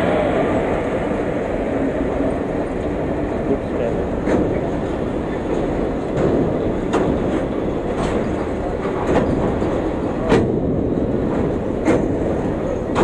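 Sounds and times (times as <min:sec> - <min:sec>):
train wheels rumbling on rails: 0:00.0 - 0:13.0
wheels clacking over rail joints: 0:00.0 - 0:13.0.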